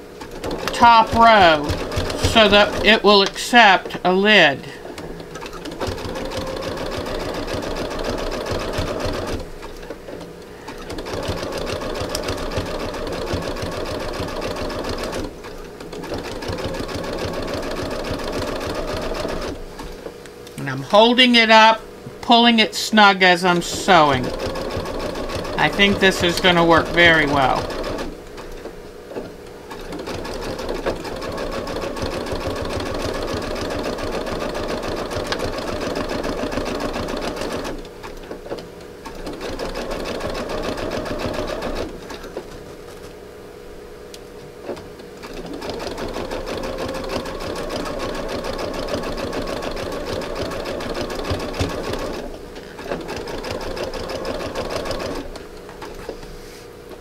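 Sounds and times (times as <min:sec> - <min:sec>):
sewing machine stitching: 0:00.2 - 0:03.3, 0:05.4 - 0:19.9, 0:23.6 - 0:42.5, 0:44.6 - 0:56.0.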